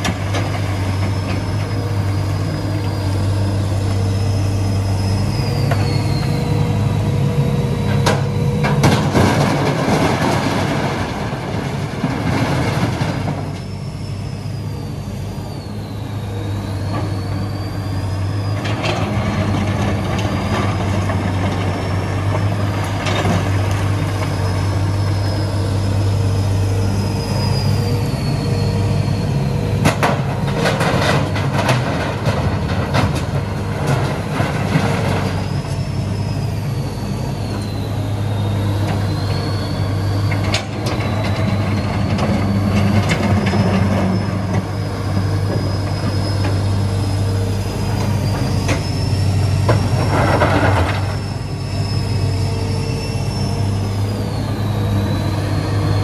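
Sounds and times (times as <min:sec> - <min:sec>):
excavator diesel engine running: 0:00.0 - 0:56.0
hydraulic whine: 0:00.0 - 0:56.0.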